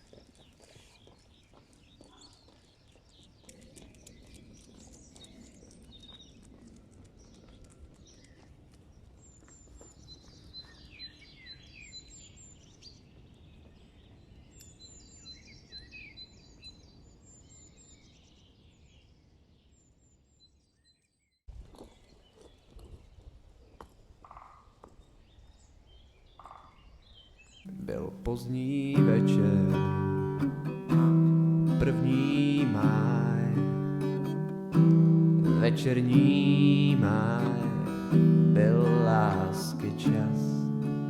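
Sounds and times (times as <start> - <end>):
birds singing: 0.0 - 41.0.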